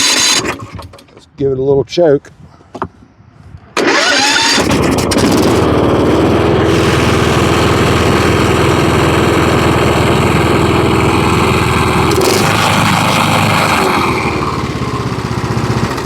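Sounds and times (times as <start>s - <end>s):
lawn mower engine running: 0.0s - 1.2s, 3.8s - 16.0s.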